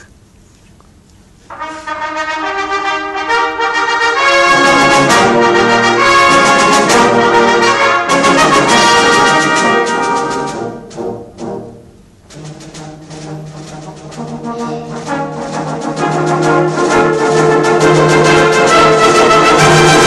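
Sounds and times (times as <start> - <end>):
concert band playing: 1.5 - 20.0.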